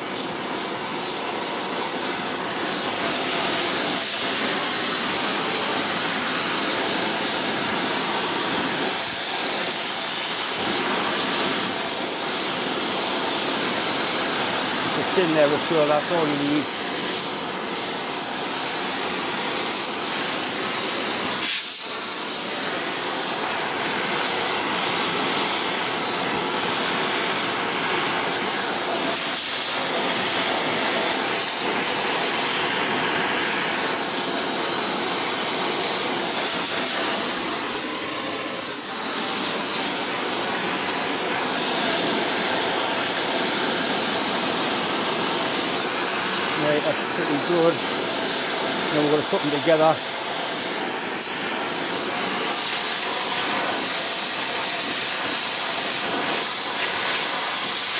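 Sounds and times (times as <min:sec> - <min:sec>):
gas ring burning: 0:00.0 - 0:57.9
torch flame hissing: 0:00.0 - 0:57.9.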